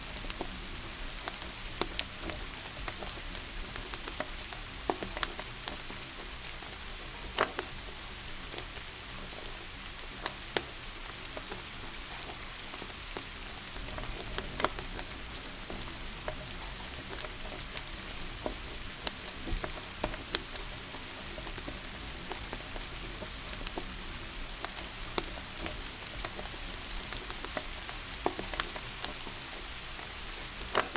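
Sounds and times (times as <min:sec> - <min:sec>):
rain falling: 0:00.0 - 0:30.9
wood fire crackling: 0:00.0 - 0:30.9.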